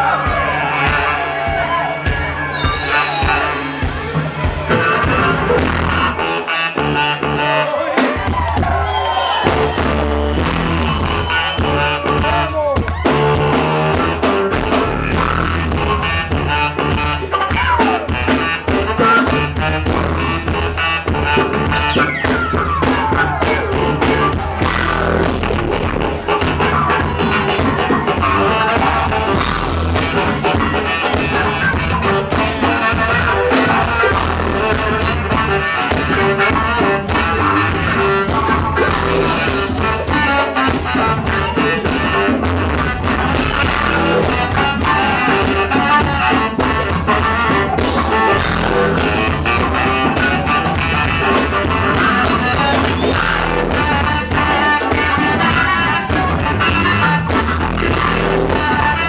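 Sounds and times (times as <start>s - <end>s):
bass guitar: 0.0s - 59.0s
drum kit: 0.0s - 59.0s
electric guitars: 0.0s - 59.0s
keyboards: 0.0s - 59.0s
baritone saxophone: 0.3s - 8.0s, 9.4s - 59.0s.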